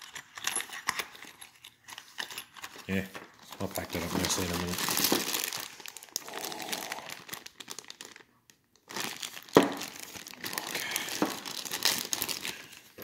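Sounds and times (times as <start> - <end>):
plastic bag crinkling: 2.5 - 13.0.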